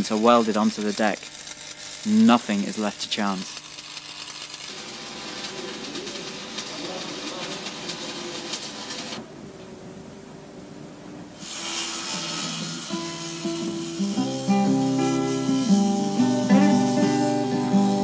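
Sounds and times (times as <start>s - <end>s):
welding arc crackling hiss: 0.0s - 9.2s, 11.3s - 18.0s.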